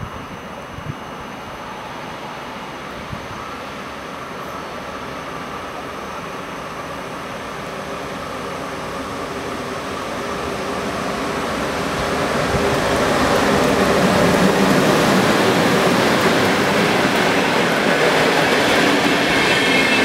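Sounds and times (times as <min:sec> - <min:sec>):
electric train running on tracks: 0:00.0 - 0:20.0.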